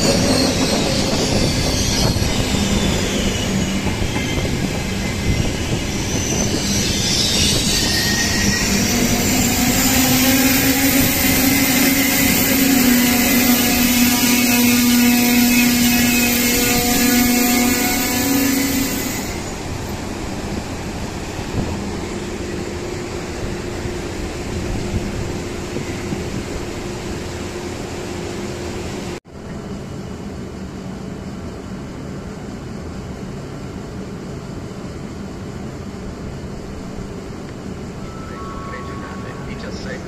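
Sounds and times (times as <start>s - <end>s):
high-speed train passing: 0.0s - 40.0s.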